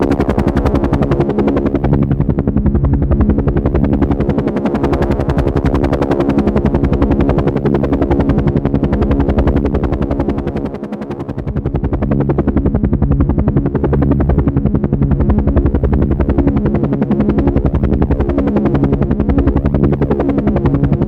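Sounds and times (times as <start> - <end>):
helicopter engine drone: 0.0 - 21.0
helicopter rotor chopping: 0.0 - 21.0.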